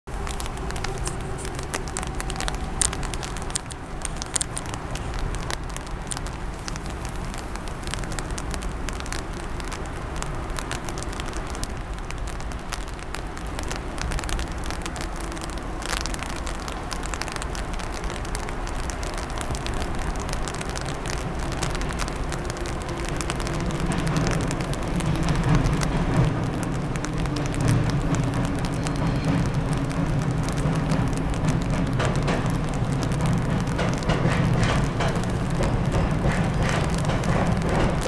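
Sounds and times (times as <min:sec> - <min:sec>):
steady rain: 0:00.0 - 0:38.0
raindrops ticking: 0:00.1 - 0:38.0.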